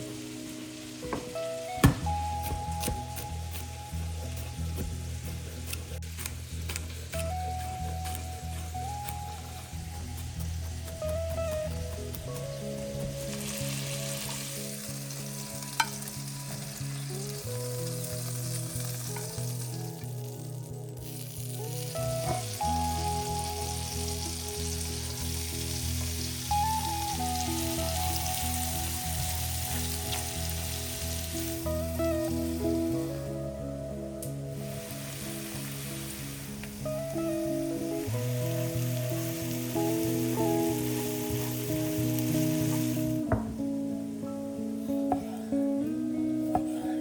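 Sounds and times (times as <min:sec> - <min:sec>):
chicken sizzling in a pan: 0:00.0 - 0:33.4, 0:34.3 - 0:43.4
soft background music: 0:00.0 - 0:47.0.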